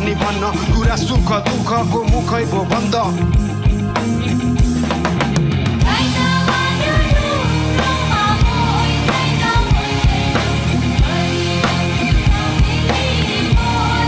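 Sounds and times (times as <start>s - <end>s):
instrumental song with drum beat: 0.0s - 14.0s.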